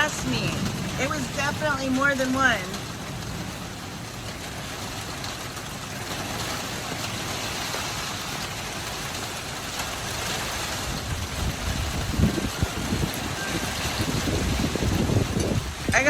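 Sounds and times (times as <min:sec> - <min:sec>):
heavy rain falling: 0:00.0 - 0:16.0
low thunder rumbling: 0:00.0 - 0:16.0.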